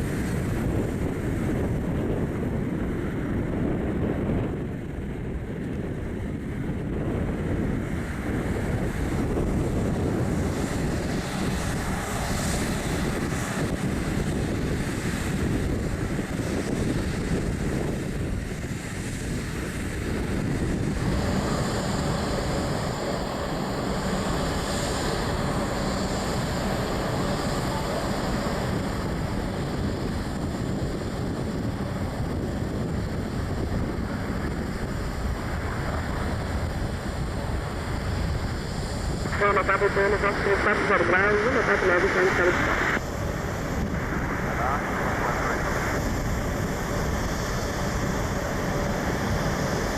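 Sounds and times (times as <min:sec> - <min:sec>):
high engine whine: 0:00.0 - 0:49.9
jet engines rushing: 0:00.0 - 0:49.9.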